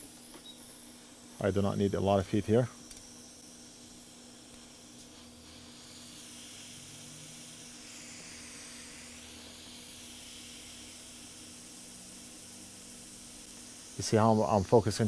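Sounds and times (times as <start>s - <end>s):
hot air nozzle hiss: 0.0s - 15.0s.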